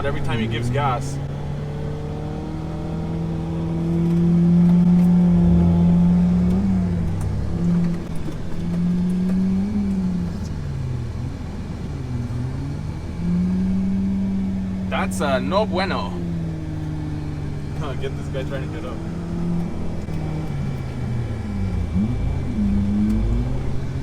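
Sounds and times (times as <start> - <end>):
truck engine revving: 2.1 - 24.0.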